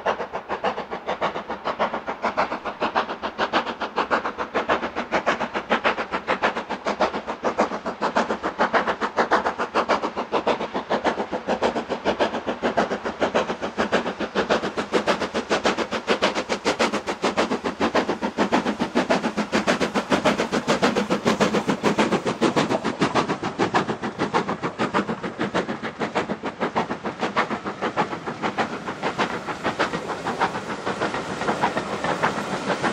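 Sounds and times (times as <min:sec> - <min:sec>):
steam locomotive exhaust beating: 0:00.0 - 0:32.9.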